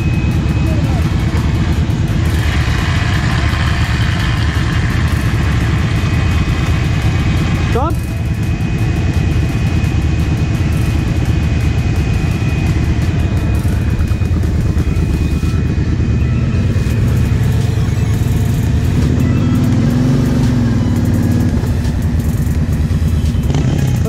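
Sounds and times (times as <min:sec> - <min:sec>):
quad engines running: 0:00.0 - 0:24.0.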